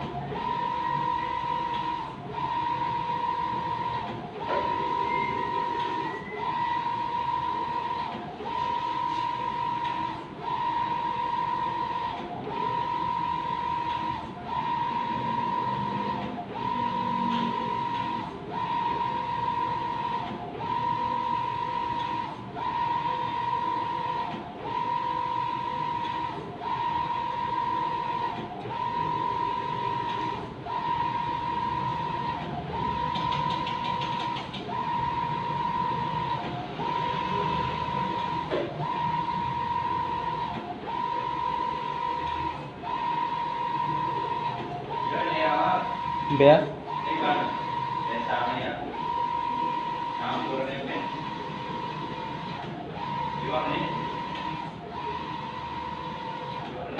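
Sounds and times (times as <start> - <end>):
inkjet printer carriage whine: 0.0 - 56.9.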